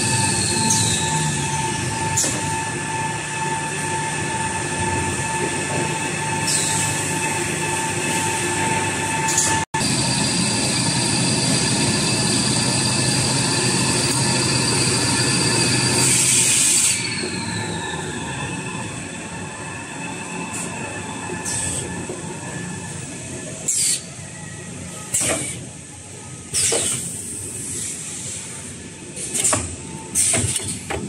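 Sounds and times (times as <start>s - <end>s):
machine drone with constant whine: 0.0s - 31.0s.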